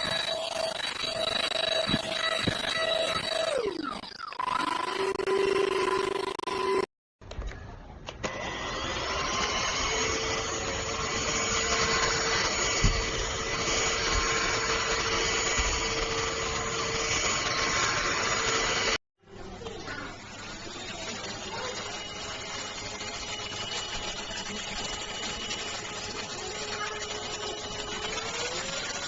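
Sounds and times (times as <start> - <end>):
handheld vacuum cleaner running: 0.0 - 6.8, 8.2 - 19.0, 19.6 - 29.0.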